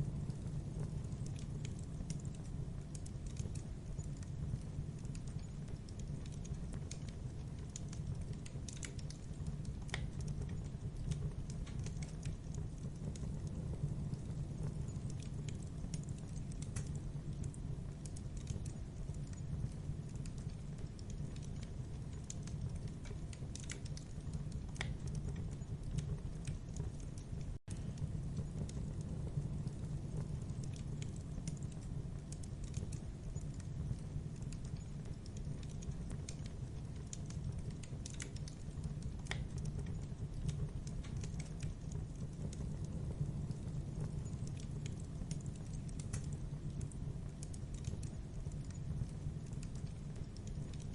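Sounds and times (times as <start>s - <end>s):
low rumble of flames: 0.0s - 50.9s
wood crackling and popping: 0.0s - 50.9s.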